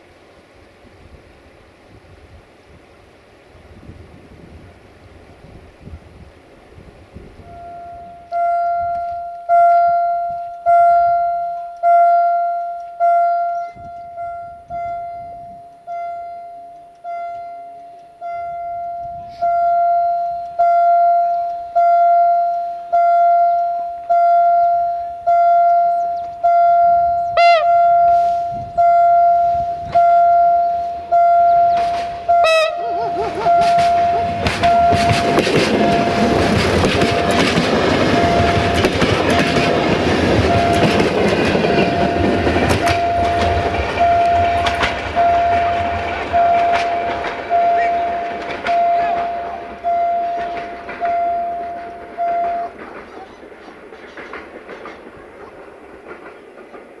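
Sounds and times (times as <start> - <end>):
diesel railcar running: 0.0 - 57.0
level crossing warning bell: 7.4 - 53.1.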